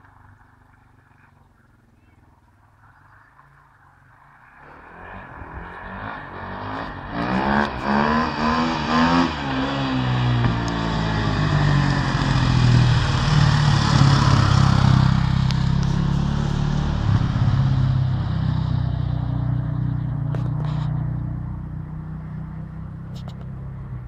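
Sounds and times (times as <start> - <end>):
dirt bike engine passing by: 0.2 - 23.0.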